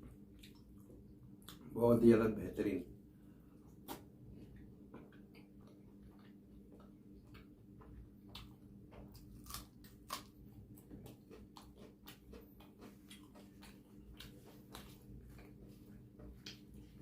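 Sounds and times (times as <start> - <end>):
person chewing food: 0.0 - 1.7, 3.7 - 17.0
faint steady hum: 0.0 - 17.0.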